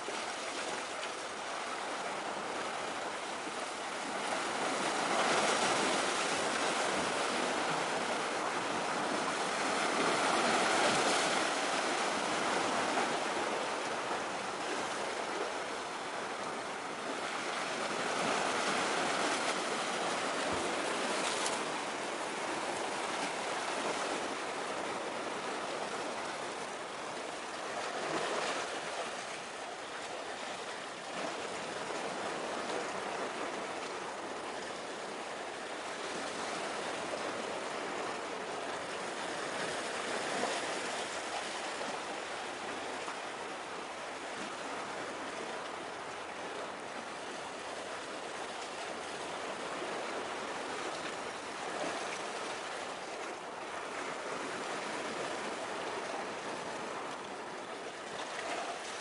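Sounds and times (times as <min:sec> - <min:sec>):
sea surf washing: 0:00.0 - 0:59.0.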